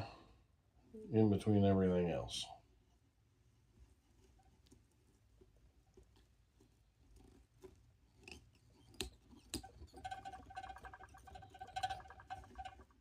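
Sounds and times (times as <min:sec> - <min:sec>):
soft handling ticks and rustles: 0:01.4 - 0:13.0.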